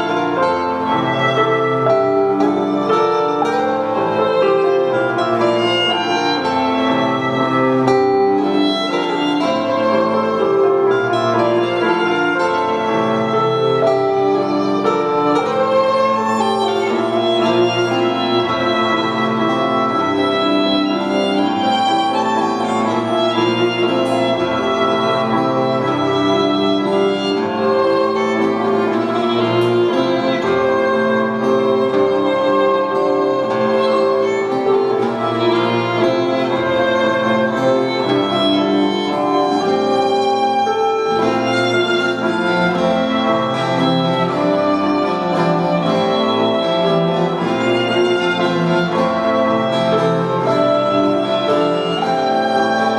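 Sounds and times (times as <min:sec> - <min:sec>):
cello: 0:00.0 - 0:52.9
piano: 0:00.0 - 0:52.9
violin melody: 0:00.0 - 0:52.9.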